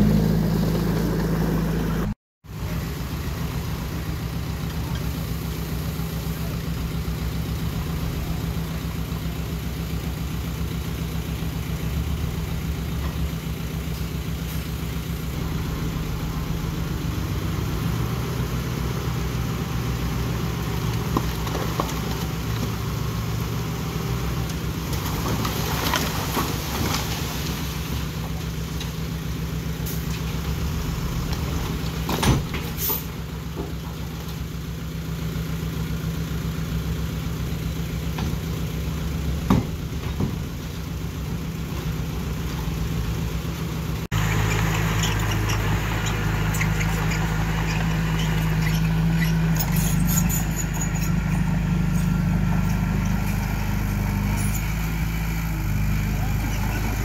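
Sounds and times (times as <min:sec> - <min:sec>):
diesel engine running at low revs: 0:00.0 - 0:57.0.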